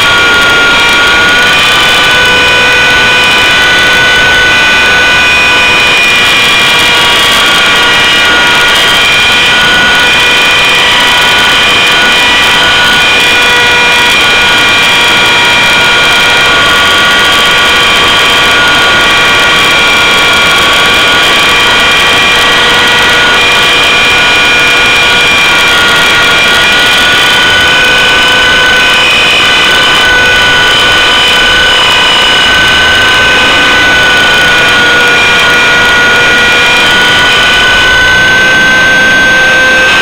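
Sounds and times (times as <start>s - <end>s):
model helicopter rotor whine: 0.0s - 40.0s.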